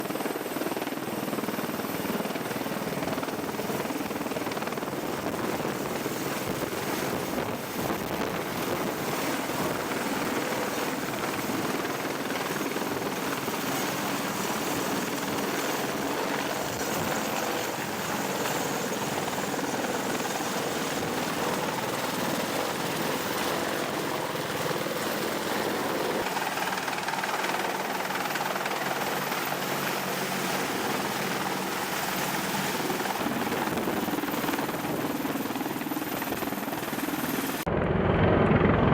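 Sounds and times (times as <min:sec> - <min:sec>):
helicopter rotor and turbine noise: 0:00.0 - 0:38.9.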